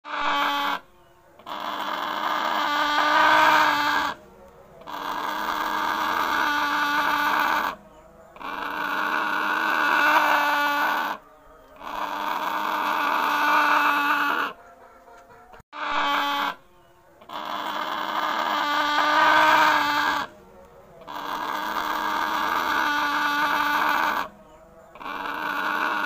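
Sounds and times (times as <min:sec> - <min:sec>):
hornbill calling: 0:00.1 - 0:26.0.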